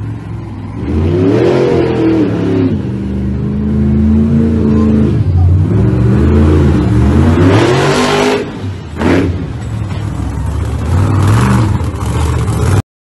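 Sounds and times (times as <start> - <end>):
monster truck engine revving: 0.6 - 12.8.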